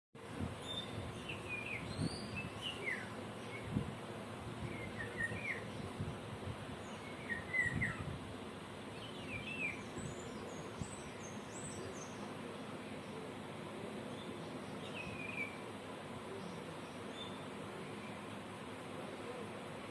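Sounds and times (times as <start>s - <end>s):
outdoor background noise: 0.2s - 19.9s
birds chirping: 0.6s - 4.0s, 4.6s - 6.0s, 6.6s - 18.8s.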